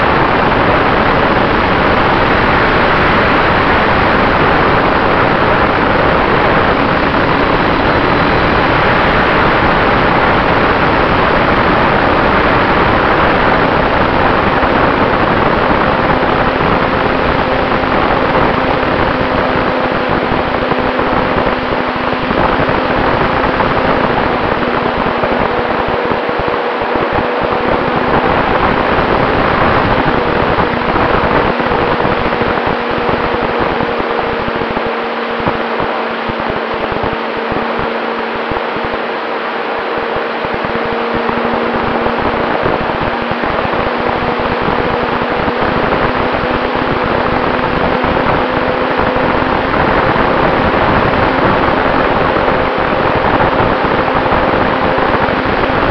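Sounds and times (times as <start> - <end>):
air rushing over microphone: 0.0 - 55.9
model plane propeller drone: 0.0 - 55.9.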